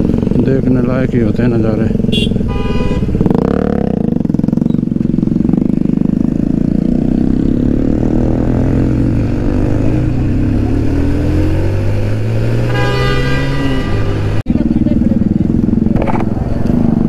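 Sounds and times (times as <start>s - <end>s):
motorcycle engine revving and cruising: 0.0s - 17.0s.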